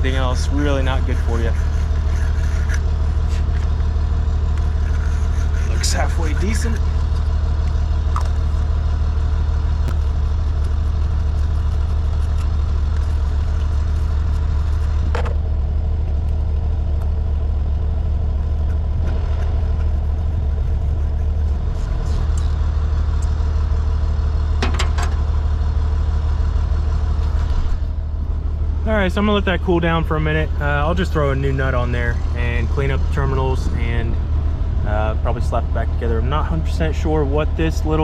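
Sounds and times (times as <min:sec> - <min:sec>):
low mechanical drone: 0:00.0 - 0:38.0.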